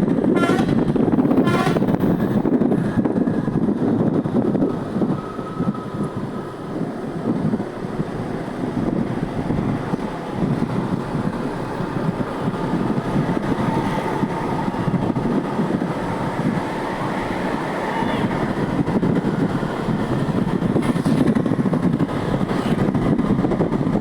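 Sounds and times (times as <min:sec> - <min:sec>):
road traffic rumbling: 0:00.0 - 0:24.0
wind buffeting microphone: 0:00.0 - 0:24.0.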